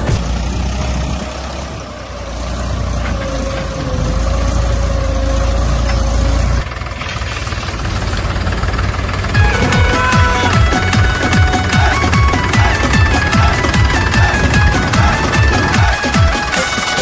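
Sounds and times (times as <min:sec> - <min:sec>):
engine whine: 0:00.0 - 0:17.0
small engine droning: 0:00.0 - 0:17.0.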